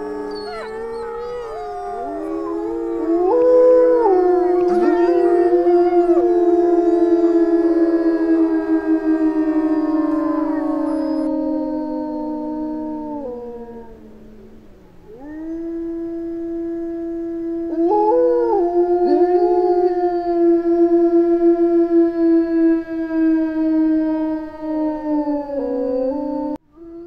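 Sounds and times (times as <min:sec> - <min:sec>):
wolves howling in chorus: 0:00.0 - 0:16.5, 0:17.1 - 0:26.6.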